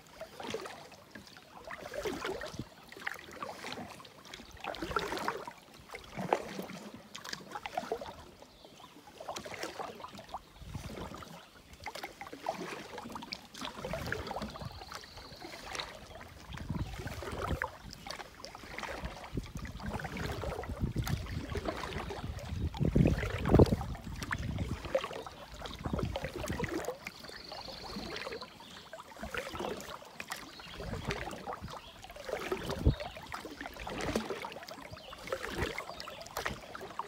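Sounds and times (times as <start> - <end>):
canoe paddle splashing: 0.0 - 37.0.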